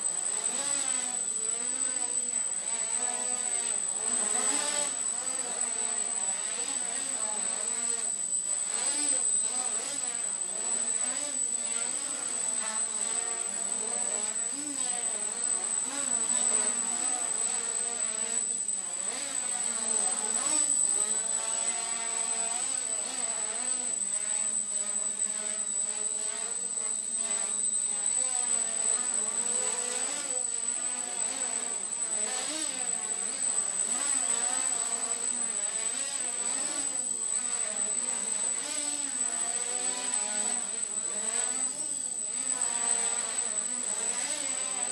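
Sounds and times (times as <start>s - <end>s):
drone motors buzzing whine: 0.0s - 44.9s.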